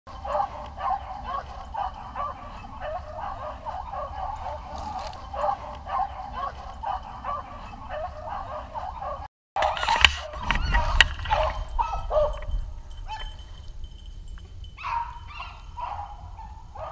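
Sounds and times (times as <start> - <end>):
hounds baying: 0.1 - 13.8, 14.6 - 16.9.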